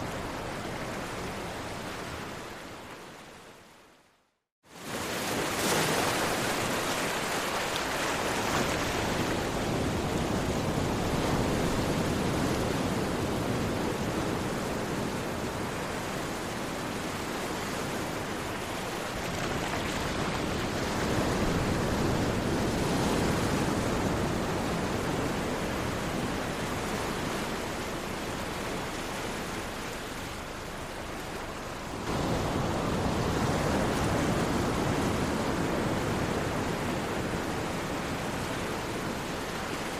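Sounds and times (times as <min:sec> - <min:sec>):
sea waves washing onto shore: 0:04.6 - 0:39.9.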